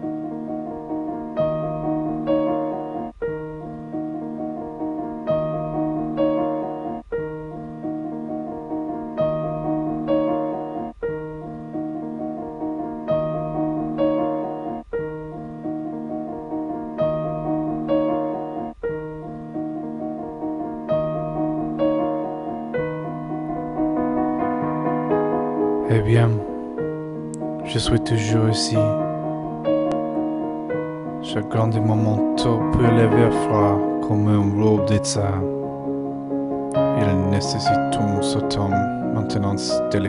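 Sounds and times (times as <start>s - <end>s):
gentle solo piano: 0.0s - 40.0s.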